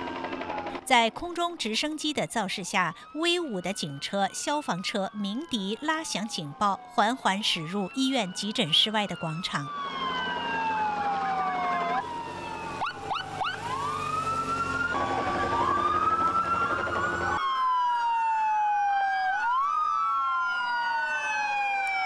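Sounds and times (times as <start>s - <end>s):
sirens wailing: 0.0s - 22.0s.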